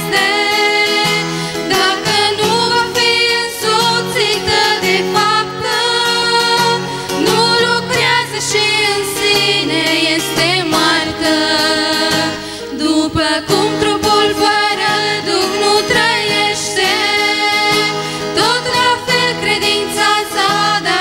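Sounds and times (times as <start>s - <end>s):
strummed acoustic guitar: 0.0s - 21.0s
women singing a hymn: 0.0s - 21.0s.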